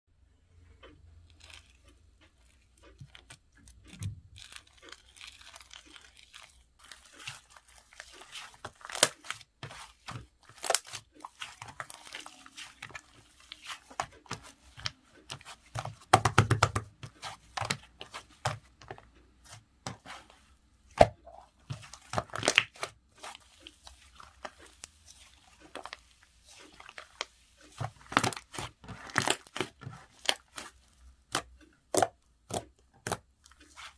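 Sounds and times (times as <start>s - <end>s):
slime crackling and popping: 3.0s - 19.0s, 20.9s - 33.9s.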